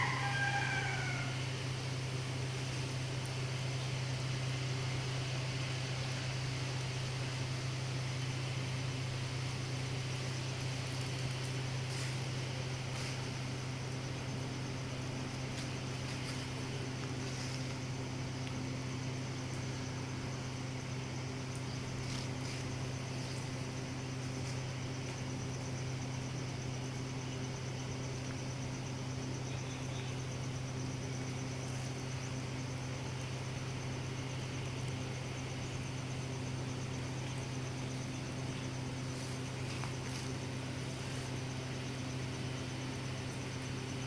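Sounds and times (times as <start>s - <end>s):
high-pitched insect trill: 0.0s - 5.0s, 5.7s - 44.0s
low mechanical hum: 0.0s - 44.0s.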